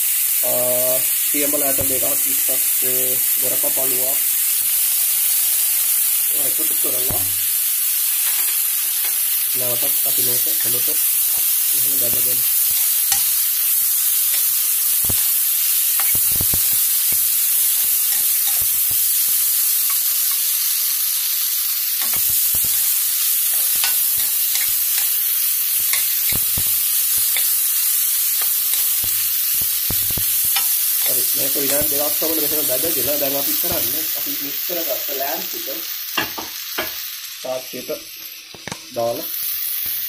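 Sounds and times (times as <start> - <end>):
food sizzling in oil: 0.0 - 40.0.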